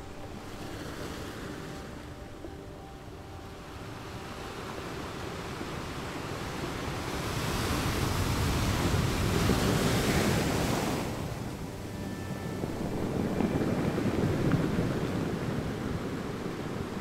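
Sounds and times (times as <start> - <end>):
surf rushing on shore: 0.0 - 17.0
wind buffeting microphone: 0.0 - 17.0.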